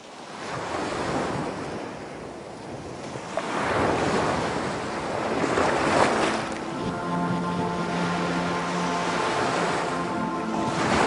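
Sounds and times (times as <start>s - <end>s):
ocean waves breaking: 0.1s - 11.0s.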